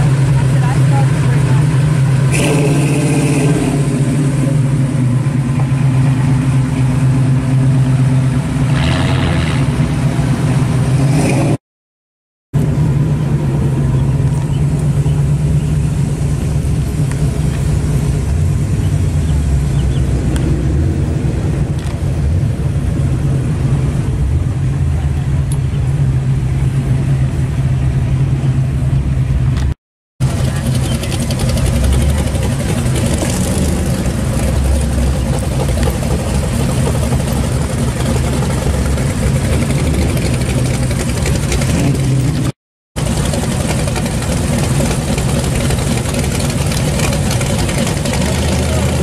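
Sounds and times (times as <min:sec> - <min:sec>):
car engine low exhaust note: 0:00.0 - 0:11.2, 0:12.6 - 0:49.0.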